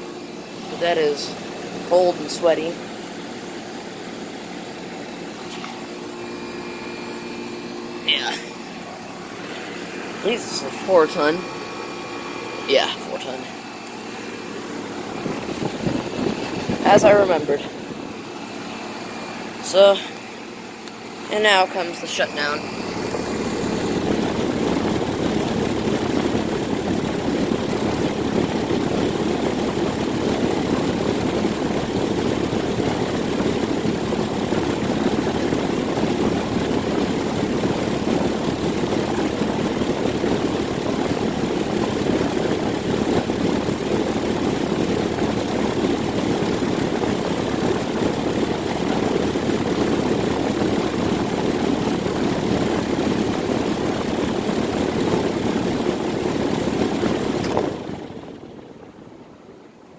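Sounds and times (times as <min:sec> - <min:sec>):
air conditioner unit running: 0:00.0 - 0:59.9.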